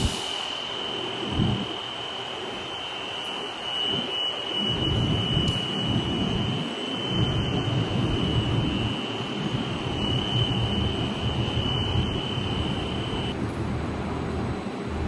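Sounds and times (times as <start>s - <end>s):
thin high whine: 0.0s - 13.4s
furnace air rushing and rumbling: 0.0s - 15.0s.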